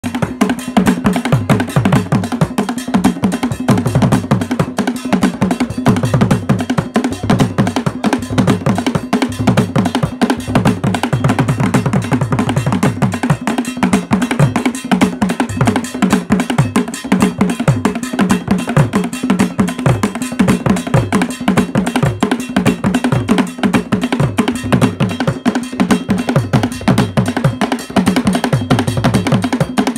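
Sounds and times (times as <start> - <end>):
drum ensemble playing fast rhythm: 0.0 - 29.9.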